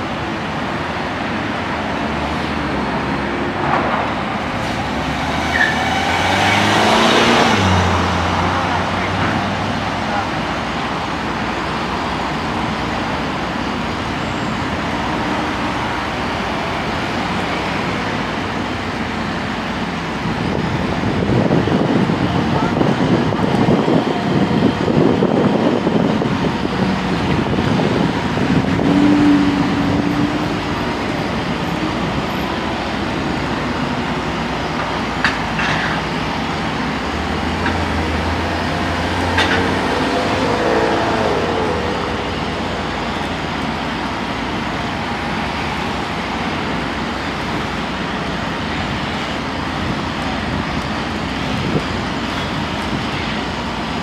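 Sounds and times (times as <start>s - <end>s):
passing street traffic: 0.0s - 54.0s
diesel engine running: 6.6s - 54.0s.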